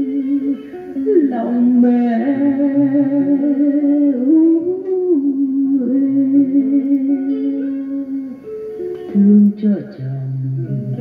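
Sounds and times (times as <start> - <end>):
sliding lead melody: 0.0 - 9.6
plucked guitar: 0.0 - 11.0.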